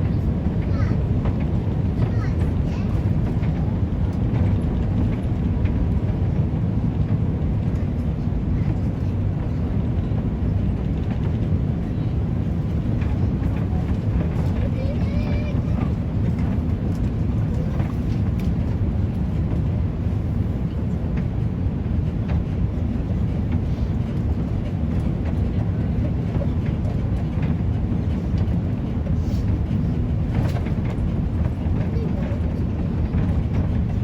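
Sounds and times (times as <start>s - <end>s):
airliner cabin engine drone: 0.0s - 34.0s.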